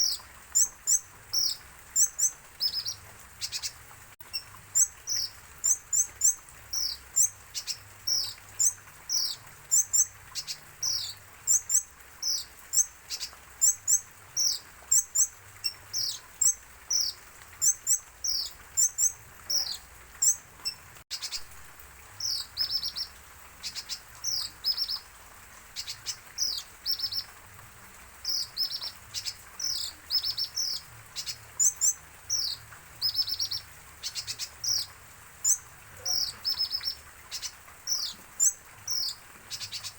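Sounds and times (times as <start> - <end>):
bird chirping and trilling: 0.0 - 21.5, 22.2 - 25.0, 28.2 - 39.9.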